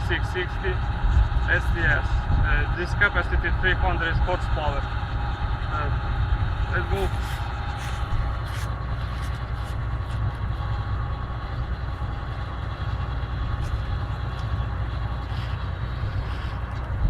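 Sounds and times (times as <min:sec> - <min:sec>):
combine engine humming: 0:00.0 - 0:17.0
machinery whining tones: 0:00.0 - 0:17.0.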